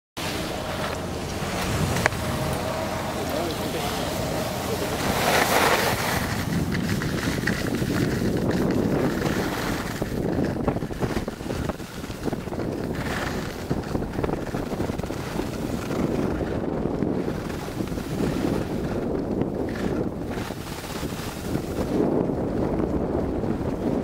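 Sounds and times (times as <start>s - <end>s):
skis scraping on snow: 0.2s - 24.0s
wind rushing over microphone: 0.2s - 24.0s.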